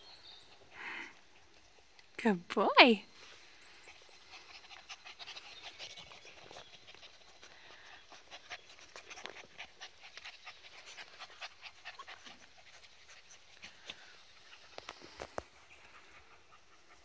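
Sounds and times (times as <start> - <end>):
puppies panting: 0.0 - 2.1, 3.4 - 17.0
soft rustles: 3.1 - 17.0.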